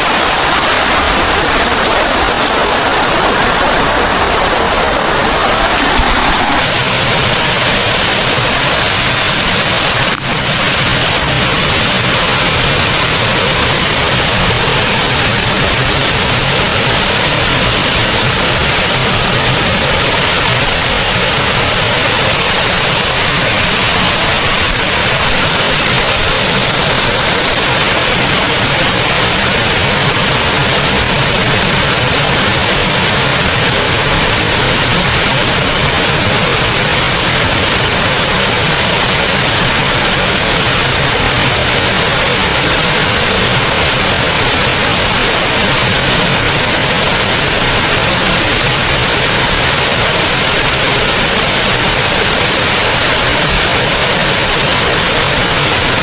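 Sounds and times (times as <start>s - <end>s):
small waterfall pouring: 0.0s - 56.0s.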